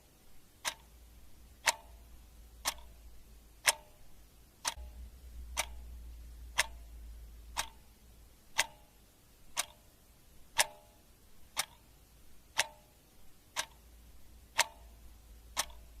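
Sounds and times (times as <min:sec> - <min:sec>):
clock ticking: 0:00.6 - 0:16.0.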